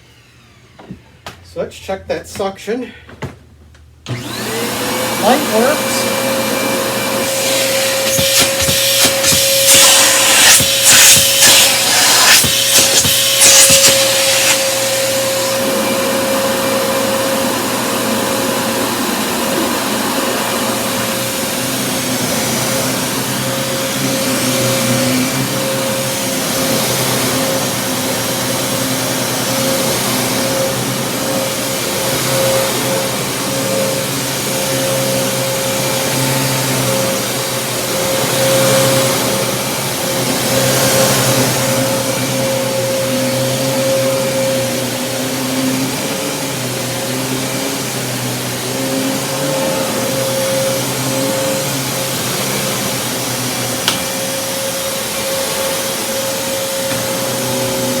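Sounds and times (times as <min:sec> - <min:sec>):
vacuum cleaner running: 0:00.0 - 0:02.5, 0:04.0 - 0:58.0.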